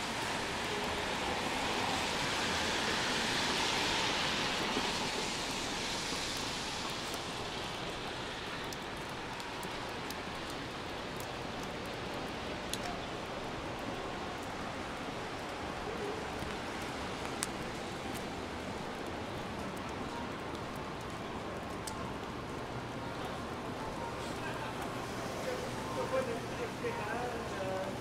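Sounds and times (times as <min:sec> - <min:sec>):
rain hissing: 0:00.0 - 0:28.0
sharp ticks of raindrops: 0:00.0 - 0:28.0.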